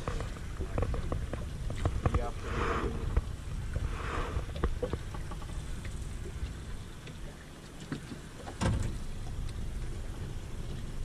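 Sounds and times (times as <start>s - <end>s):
water splashing against boat hull: 0.0s - 11.0s
wind rumble on microphone: 0.0s - 11.0s.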